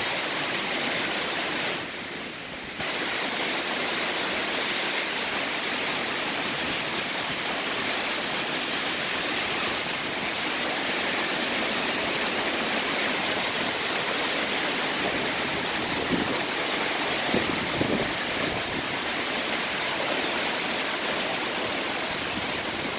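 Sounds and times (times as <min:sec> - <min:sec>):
rain falling steadily: 0:00.0 - 0:22.9.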